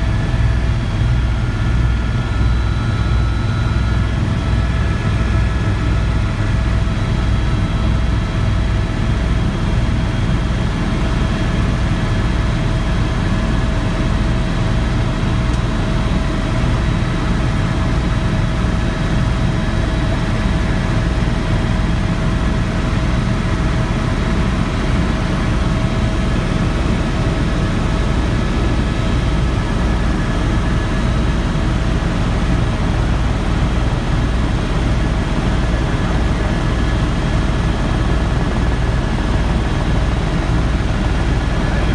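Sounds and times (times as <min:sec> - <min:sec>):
engine whine: 0:00.0 - 0:41.9
helicopter rotor beating: 0:00.0 - 0:41.9.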